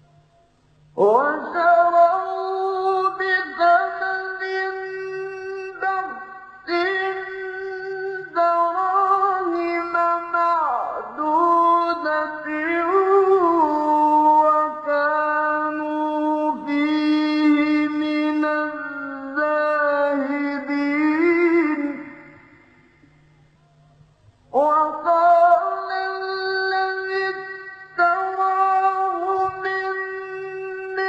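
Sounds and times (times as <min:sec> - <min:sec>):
man chanting melodically: 0:00.2 - 0:31.0.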